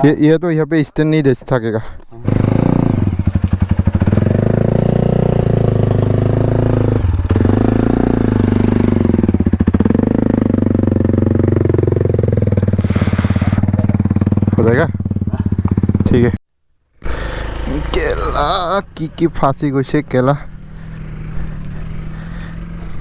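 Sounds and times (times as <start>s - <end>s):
motorcycle engine revving: 2.2s - 16.4s, 17.0s - 23.0s.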